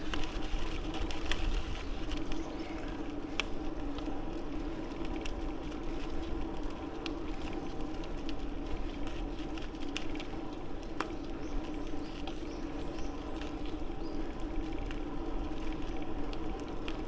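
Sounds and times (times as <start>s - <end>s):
bicycle tyres and drivetrain humming: 0.0s - 17.0s
wind rumble on microphone: 0.0s - 17.0s.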